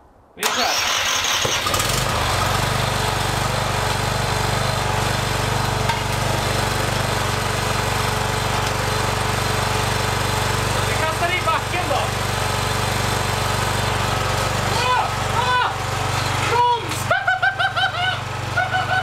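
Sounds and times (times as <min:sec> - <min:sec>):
riding lawn mower engine running: 0:00.4 - 0:19.0.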